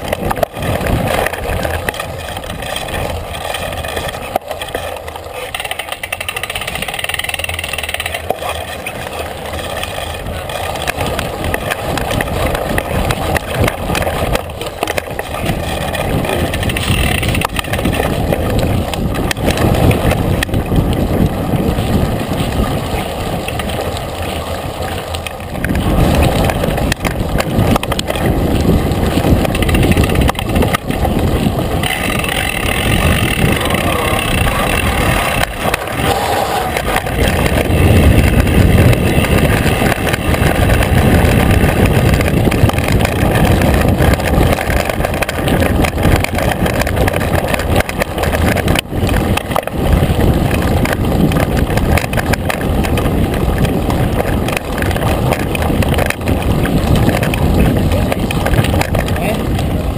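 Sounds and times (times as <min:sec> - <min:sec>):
bike knocks and rattles: 0:00.0 - 0:59.9
tyres rolling on gravel: 0:00.0 - 0:59.9
wind rushing over microphone: 0:00.0 - 0:59.9.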